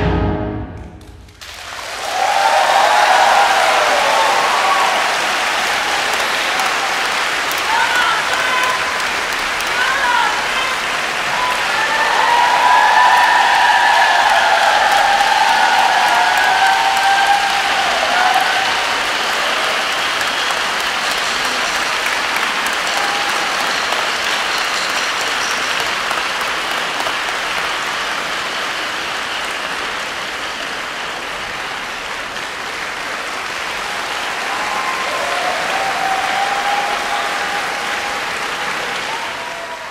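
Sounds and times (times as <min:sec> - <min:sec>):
large audience applauding: 0:01.0 - 0:39.9.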